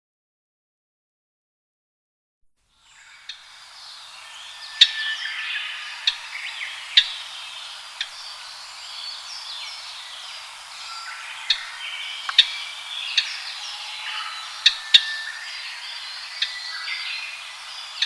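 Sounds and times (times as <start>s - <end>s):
birds chirping and whistling: 2.9s - 18.0s
sharp loud bird notes: 2.9s - 18.0s.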